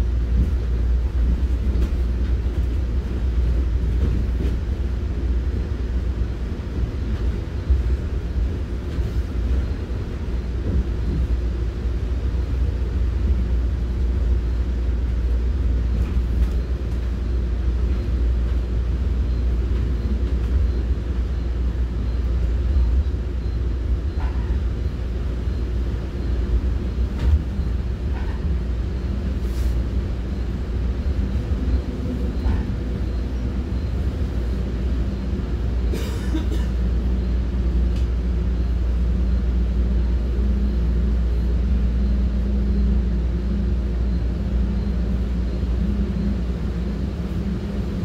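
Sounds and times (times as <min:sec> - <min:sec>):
train rumble from inside coach: 0:00.0 - 0:48.0.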